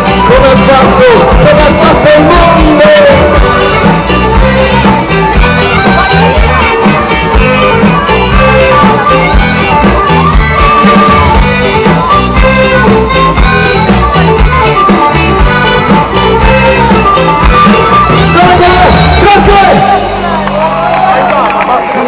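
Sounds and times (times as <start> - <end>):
steady drum beat: 0.0 - 20.8
accordion melody: 0.0 - 20.9.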